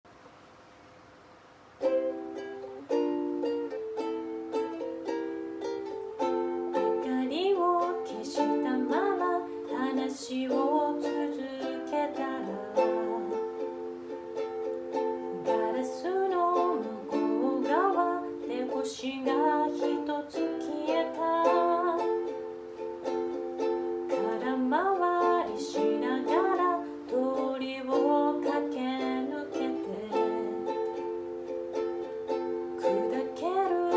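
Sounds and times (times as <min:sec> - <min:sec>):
ukulele chords and picked notes: 0:01.8 - 0:33.9.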